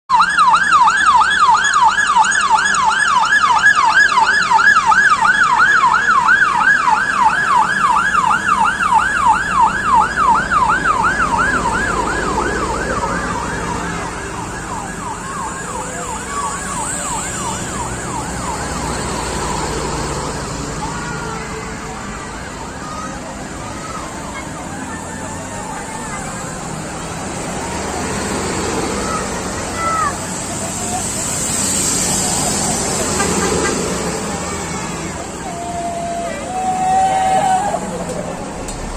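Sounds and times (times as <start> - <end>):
siren yelping: 0.1 - 38.7
passing traffic: 0.1 - 38.9.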